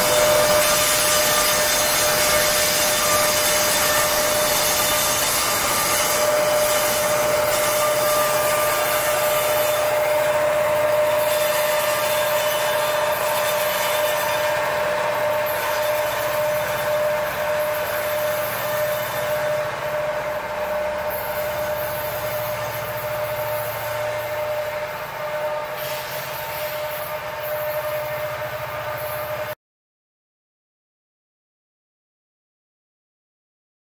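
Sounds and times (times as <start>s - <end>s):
freight train wheels rumbling: 0.0s - 29.6s.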